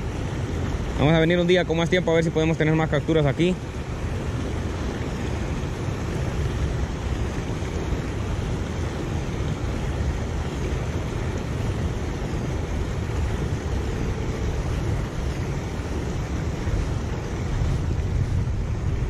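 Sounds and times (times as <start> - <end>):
water pouring into river pool: 0.0 - 18.8
wind buffeting microphone: 2.9 - 19.0.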